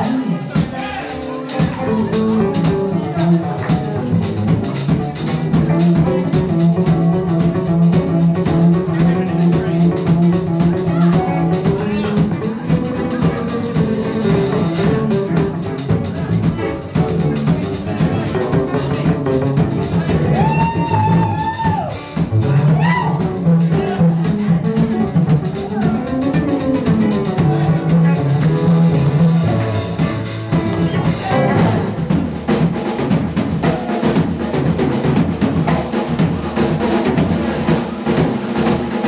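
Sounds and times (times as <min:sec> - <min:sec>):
bending electric guitar lead: 0:00.0 - 0:32.1
live country-blues band: 0:00.0 - 0:39.0.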